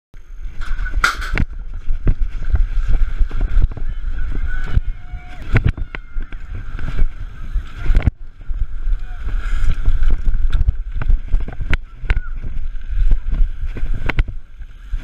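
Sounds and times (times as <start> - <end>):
bike knocking and rattling: 0.2 - 15.0
wind noise on microphone: 0.2 - 15.0.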